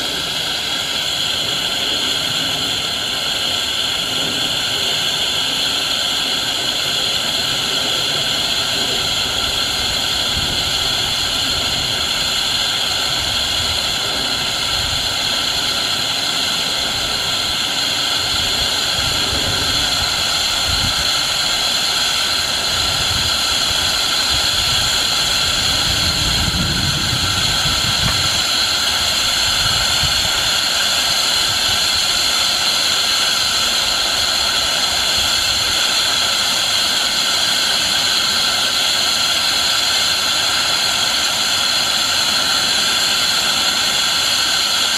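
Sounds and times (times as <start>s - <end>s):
steam hissing: 0.0s - 44.9s.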